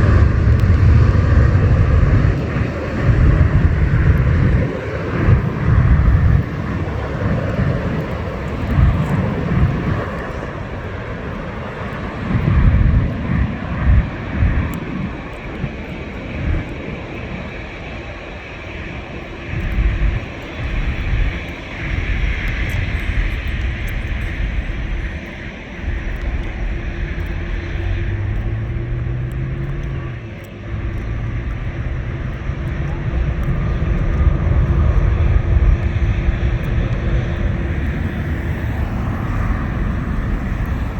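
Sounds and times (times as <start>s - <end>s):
jet engines roaring: 0.0s - 40.9s
wind buffeting microphone: 0.0s - 40.9s.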